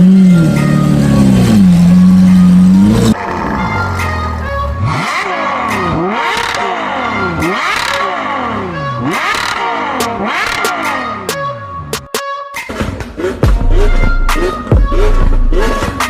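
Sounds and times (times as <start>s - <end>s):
sports car engine revving: 0.0s - 11.6s, 13.1s - 16.0s.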